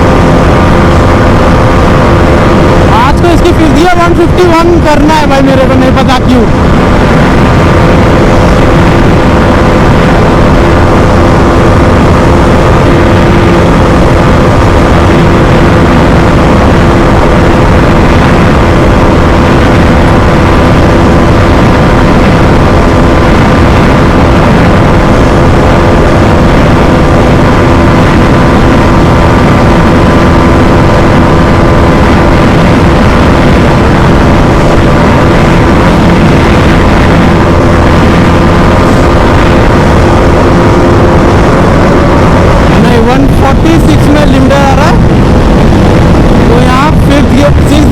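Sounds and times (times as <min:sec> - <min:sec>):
loud wind rush: 0:00.0 - 0:47.9
motorcycle engine at high speed: 0:00.0 - 0:47.9.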